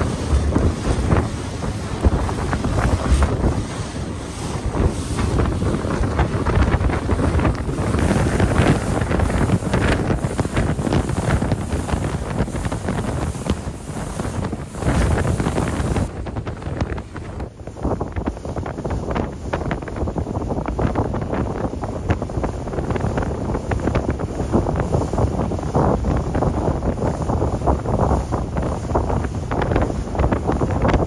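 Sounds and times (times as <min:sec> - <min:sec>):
gusty wind buffeting microphone: 0:00.0 - 0:31.0.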